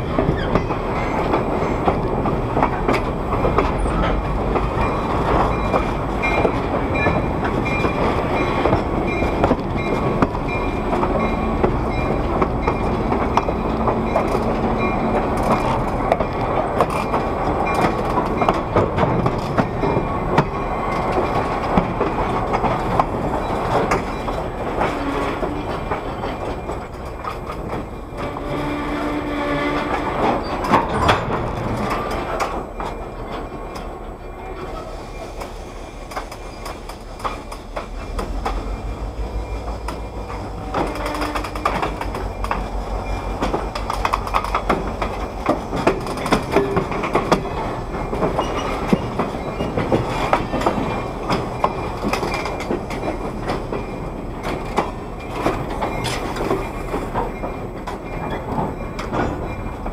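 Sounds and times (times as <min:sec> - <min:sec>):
railcar wheels rumbling on track: 0:00.0 - 0:59.9
clicks at rail joints: 0:00.1 - 0:29.1, 0:29.7 - 0:38.8, 0:39.6 - 0:59.9.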